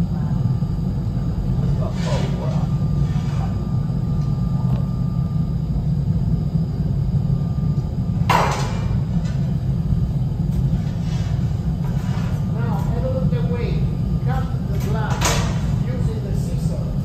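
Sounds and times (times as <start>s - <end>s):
furnace low rumble: 0.0s - 17.0s.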